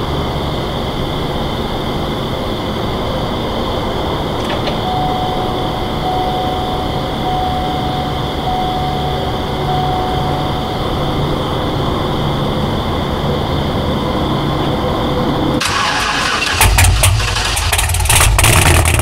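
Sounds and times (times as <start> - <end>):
faint steady tone: 0.0 - 15.6
air conditioner humming: 0.0 - 16.6
insects buzzing: 0.0 - 16.7.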